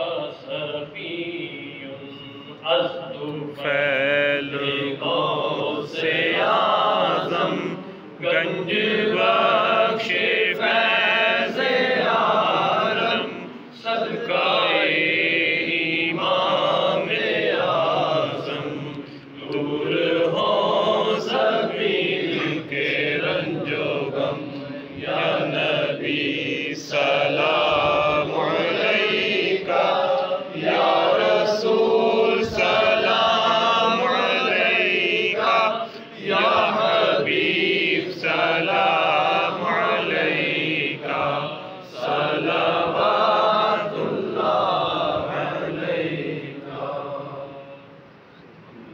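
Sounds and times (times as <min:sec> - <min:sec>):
men chanting in unison: 0:00.0 - 0:47.8.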